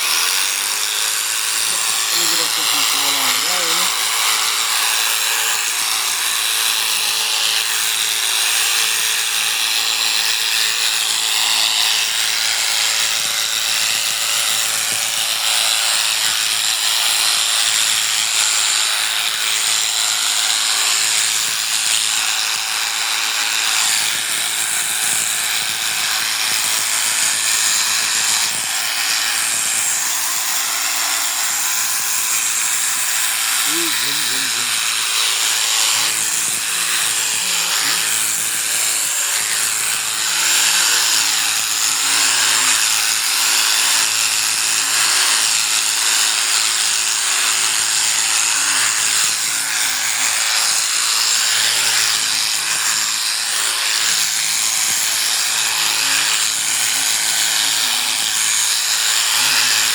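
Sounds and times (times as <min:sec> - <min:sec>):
electric clippers shearing fleece: 0:00.0 - 0:59.9.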